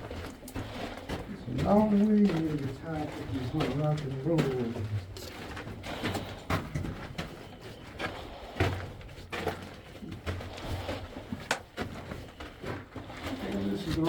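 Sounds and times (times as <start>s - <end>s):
footsteps on loose rock: 0.0s - 14.0s.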